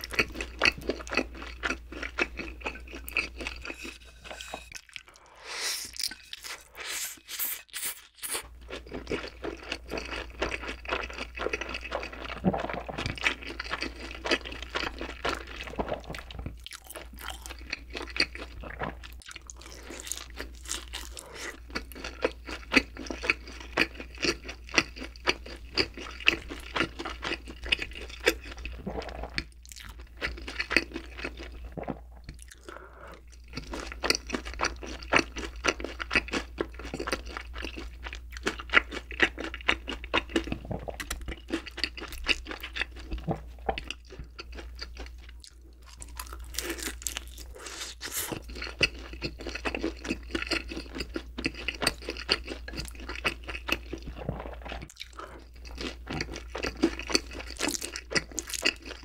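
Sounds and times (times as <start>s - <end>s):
chewing crispy fried chicken: 0.0s - 3.9s, 4.8s - 59.0s.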